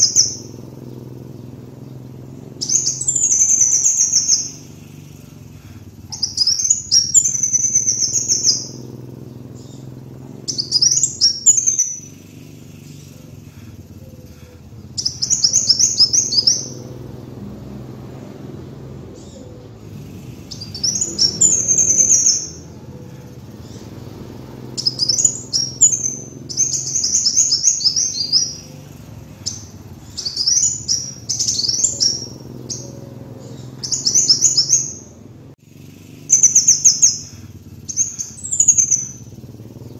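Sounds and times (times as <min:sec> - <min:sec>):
sunbird twittering trills: 0:00.0 - 0:39.9.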